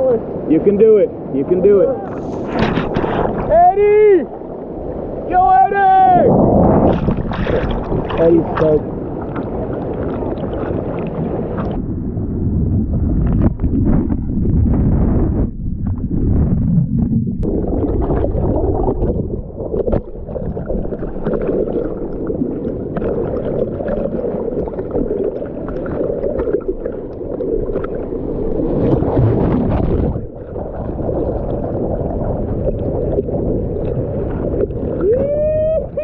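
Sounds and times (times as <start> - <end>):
ocean surf splashing: 0.0 - 11.9, 16.2 - 36.0.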